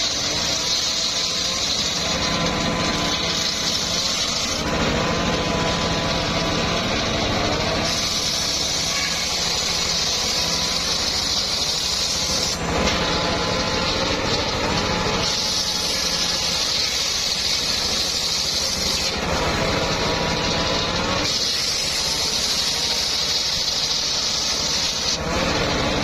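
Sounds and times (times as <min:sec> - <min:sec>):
engine running: 0:00.0 - 0:26.0
saw blade whine: 0:00.0 - 0:26.0
saw cutting wood: 0:00.0 - 0:26.0.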